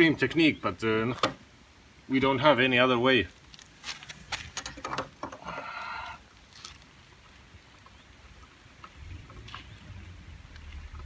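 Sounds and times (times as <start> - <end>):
light rain pattering: 0.0 - 11.0.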